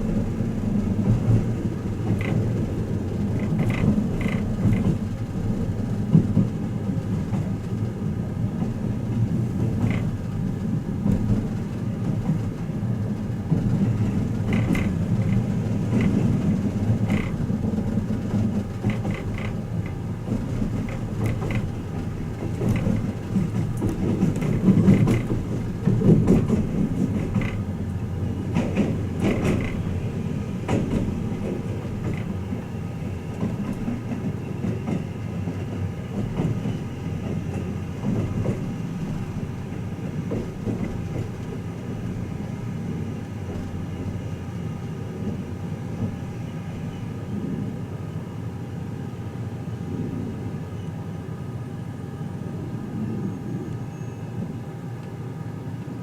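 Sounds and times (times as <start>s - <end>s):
train running low rumble: 0.0s - 56.0s.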